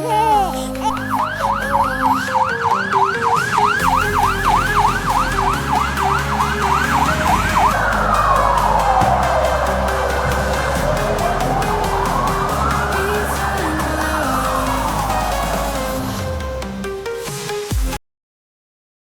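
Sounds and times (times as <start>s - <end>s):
background music with low notes: 0.0s - 18.0s
emergency vehicle siren: 0.8s - 16.9s.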